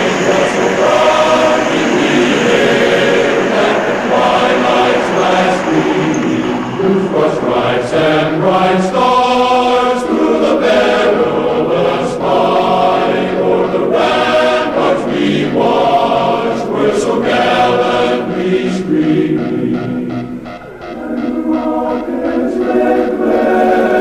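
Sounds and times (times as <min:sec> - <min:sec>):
choir singing an anthem: 0:00.0 - 0:24.0.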